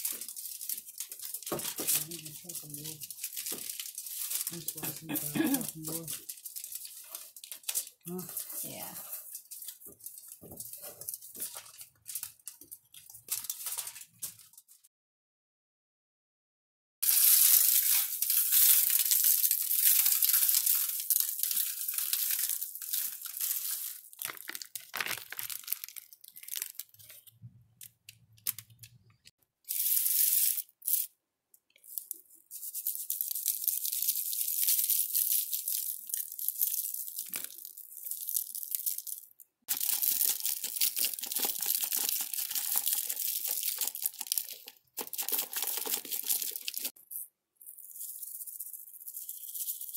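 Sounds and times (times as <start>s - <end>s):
aluminium foil crinkling and tearing: 0.0s - 14.8s, 17.0s - 28.9s, 29.7s - 31.1s, 31.8s - 49.9s.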